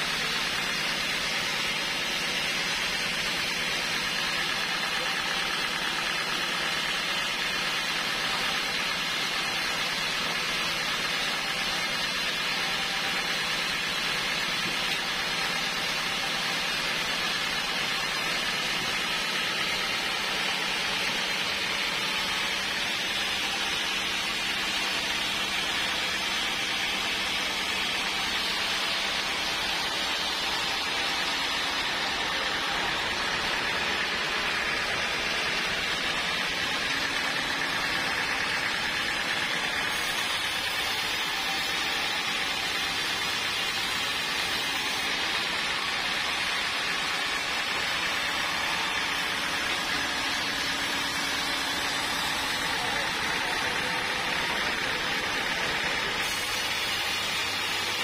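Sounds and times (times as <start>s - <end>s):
band sawmill idling: 0.0s - 58.0s.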